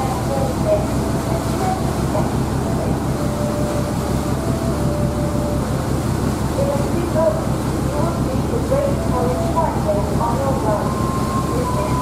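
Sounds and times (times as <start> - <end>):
ferry engine droning: 0.0 - 12.0.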